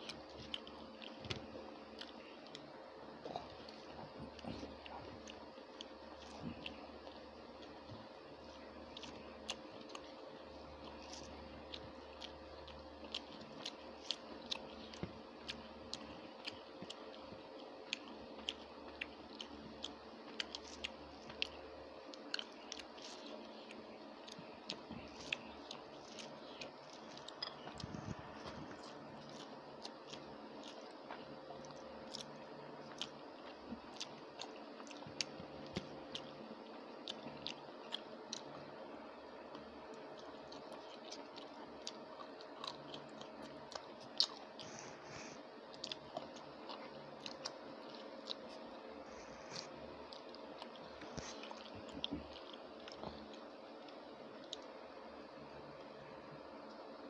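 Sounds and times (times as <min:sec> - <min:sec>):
chewing with wet mouth clicks: 0:00.0 - 0:38.7, 0:39.4 - 0:54.8.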